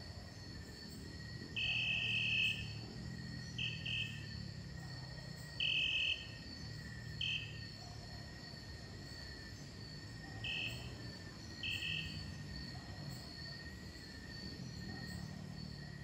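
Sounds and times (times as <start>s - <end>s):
insect chirring: 0.3s - 4.7s, 5.3s - 7.8s, 8.4s - 16.0s.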